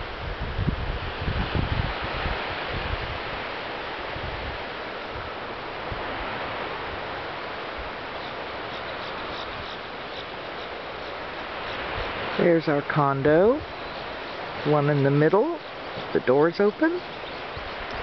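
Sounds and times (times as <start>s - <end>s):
sea surf: 0.0s - 18.0s
wind: 0.0s - 18.0s
wind buffeting microphone: 0.0s - 18.0s.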